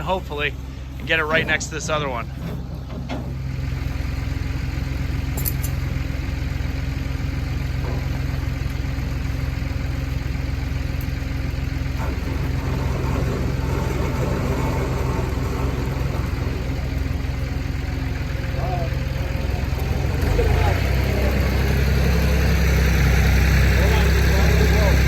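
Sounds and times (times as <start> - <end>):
engine running at low revs: 0.0 - 25.0.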